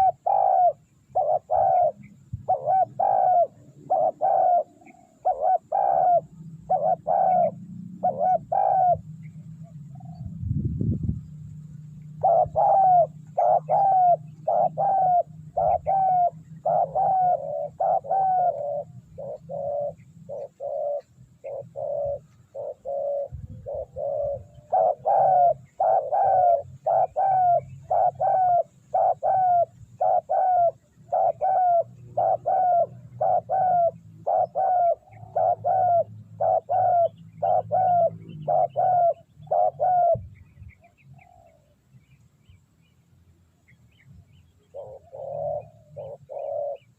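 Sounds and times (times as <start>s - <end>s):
dove cooing: 0.0s - 10.4s, 11.6s - 41.8s, 44.6s - 46.9s.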